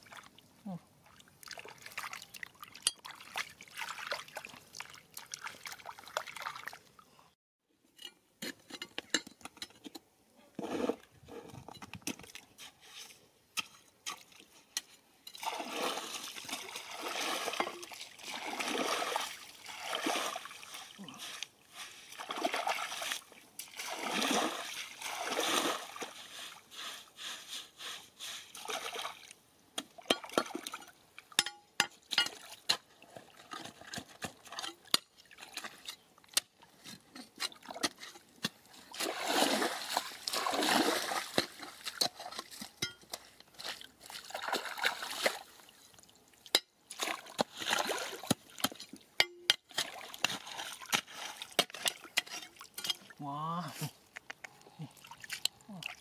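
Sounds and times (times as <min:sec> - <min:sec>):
water splashing and sloshing: 0:00.0 - 0:07.2, 0:10.6 - 0:27.0, 0:28.2 - 0:53.2, 0:53.8 - 0:56.0.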